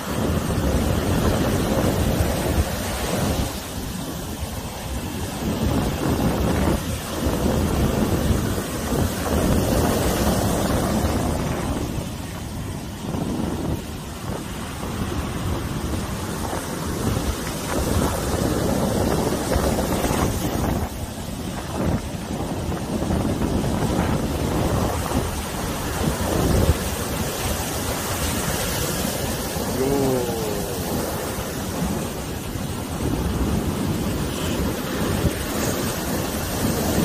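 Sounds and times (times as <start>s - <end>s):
ocean surf breaking on beach: 0.0s - 37.0s
wind rumbling on microphone: 0.0s - 37.0s.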